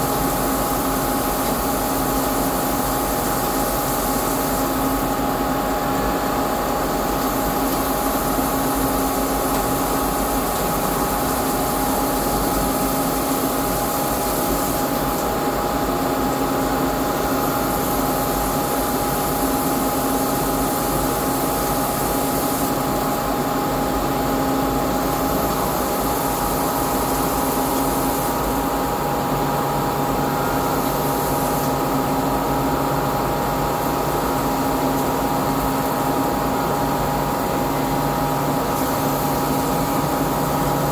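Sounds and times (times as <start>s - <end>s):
machine hiss: 0.0s - 29.0s, 30.1s - 40.9s.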